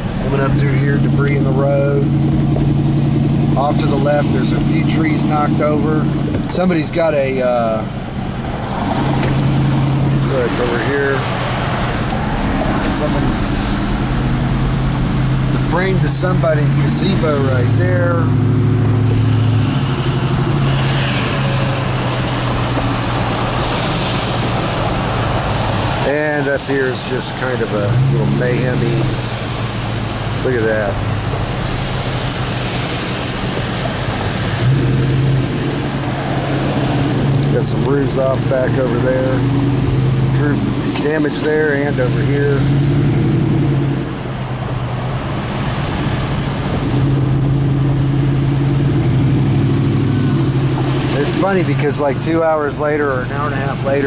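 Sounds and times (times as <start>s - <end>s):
car engine hum: 0.0s - 54.0s
tyre road noise: 0.0s - 54.0s.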